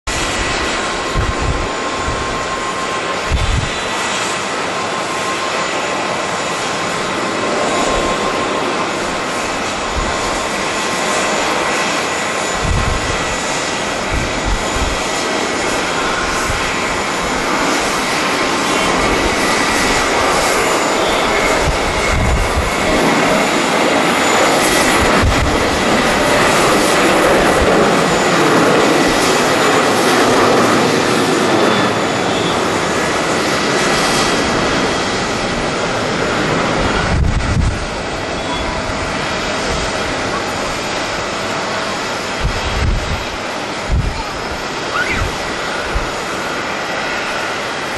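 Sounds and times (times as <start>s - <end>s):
jet engines roaring: 0.1s - 47.9s
wind buffeting microphone: 0.1s - 47.9s.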